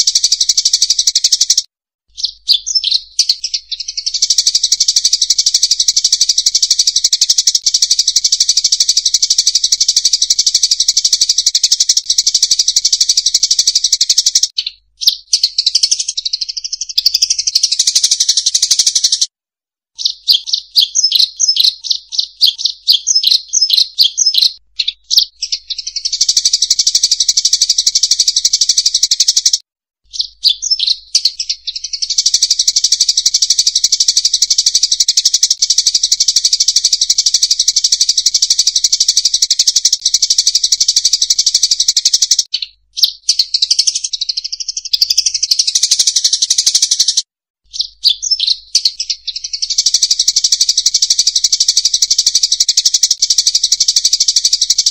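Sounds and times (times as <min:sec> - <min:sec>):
birds chattering: 0:02.2 - 0:19.3, 0:20.0 - 0:29.6, 0:30.2 - 0:47.2, 0:47.8 - 0:52.0.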